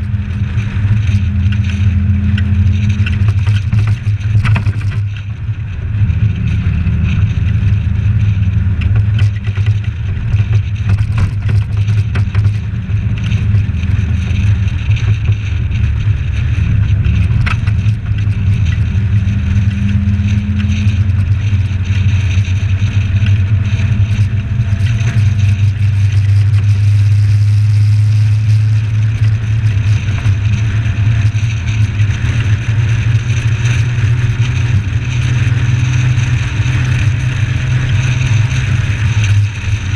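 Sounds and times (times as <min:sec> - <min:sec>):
car engine drone: 0:00.0 - 0:39.9
tyre and wind noise: 0:00.0 - 0:39.9.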